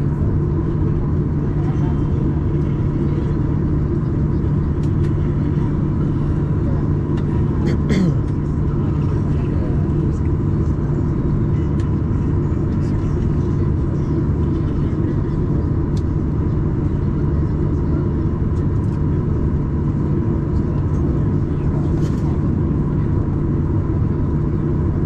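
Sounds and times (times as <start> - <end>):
airliner cabin engine roar: 0.0 - 25.0.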